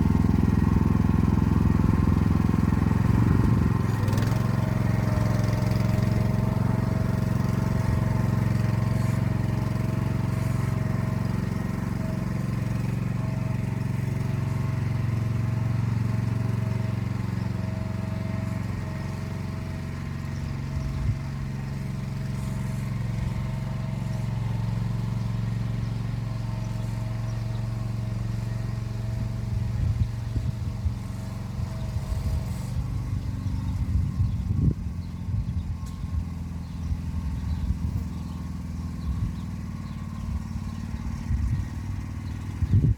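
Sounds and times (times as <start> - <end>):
small tractor engine whining: 0.0 - 42.9.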